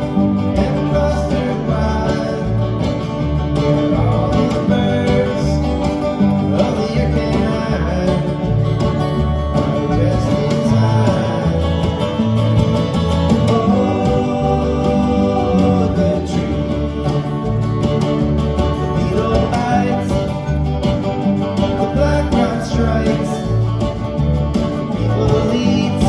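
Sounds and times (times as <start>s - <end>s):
bluegrass band playing: 0.0s - 26.0s.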